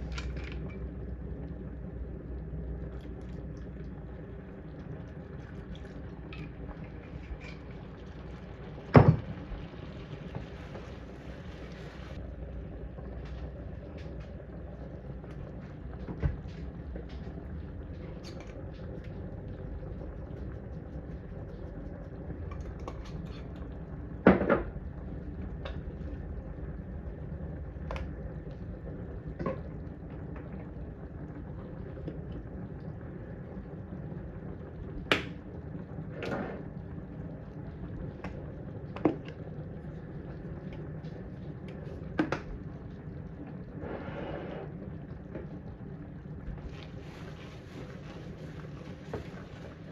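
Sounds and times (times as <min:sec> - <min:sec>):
low background hum: 0:00.0 - 0:49.9.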